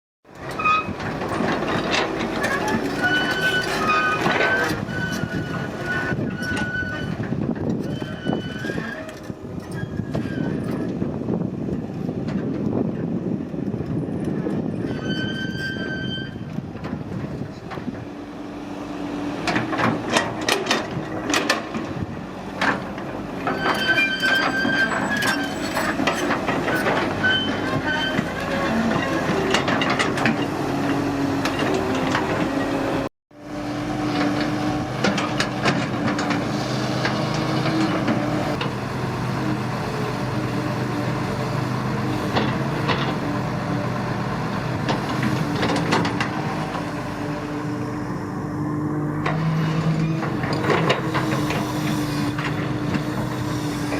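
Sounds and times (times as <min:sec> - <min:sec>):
excavator diesel engine under load: 0:00.3 - 0:53.9.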